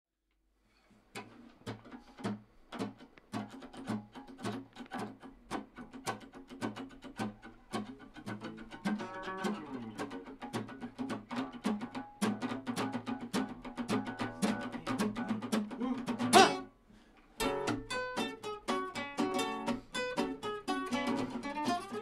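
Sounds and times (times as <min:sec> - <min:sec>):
acoustic guitars playing: 0:01.1 - 0:22.0.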